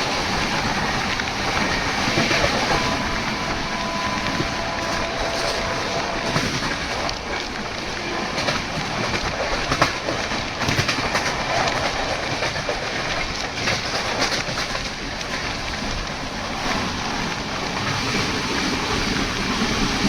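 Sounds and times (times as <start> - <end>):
train running noise: 0.0 - 20.0
wheels clacking over rail joints: 0.0 - 20.0.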